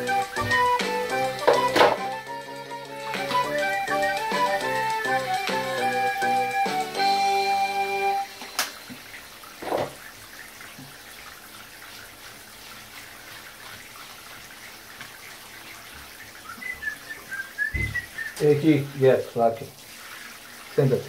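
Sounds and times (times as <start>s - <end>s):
shower water running into bathtub: 0.0s - 21.0s.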